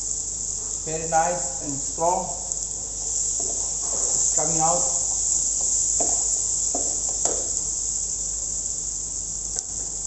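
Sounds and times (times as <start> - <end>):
onions sizzling in a frying pan: 0.0 - 10.0.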